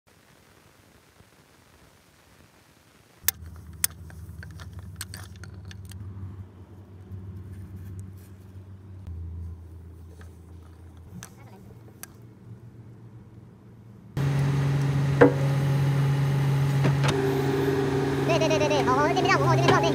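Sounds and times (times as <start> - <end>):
engine hum: 3.2 - 19.9.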